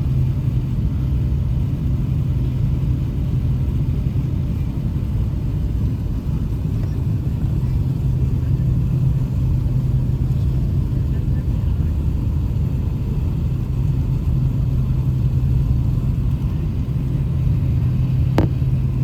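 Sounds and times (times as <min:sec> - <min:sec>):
jet engine rumble: 0:00.0 - 0:19.0
low hum: 0:00.0 - 0:19.0.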